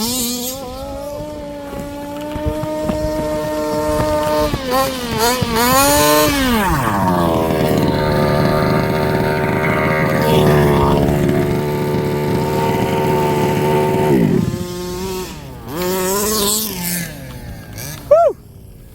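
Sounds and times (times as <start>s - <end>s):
small two-stroke engine revving: 0.0s - 18.9s.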